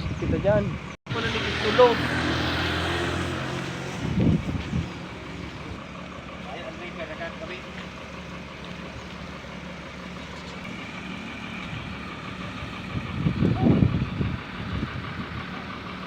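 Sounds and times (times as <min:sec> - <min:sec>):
heavy equipment engine running: 0:00.7 - 0:16.0.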